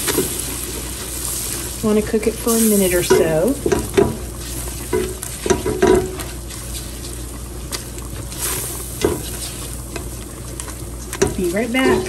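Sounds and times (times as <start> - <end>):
roux sizzling in a pot: 0.0 - 12.0.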